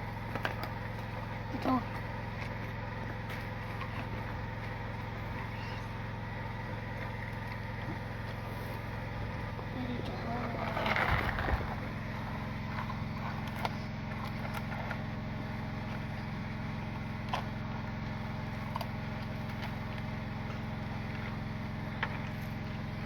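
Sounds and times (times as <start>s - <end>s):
motor humming: 0.0s - 23.0s.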